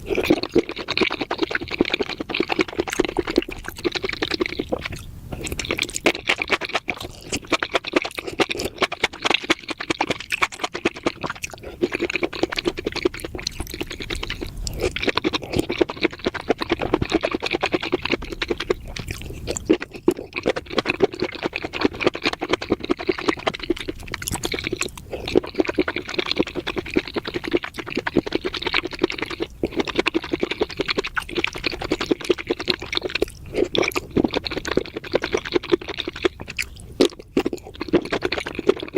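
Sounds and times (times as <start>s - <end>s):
wet chewing and slurping: 0.0s - 38.9s
wet mouth smacks and clicks: 0.1s - 38.9s.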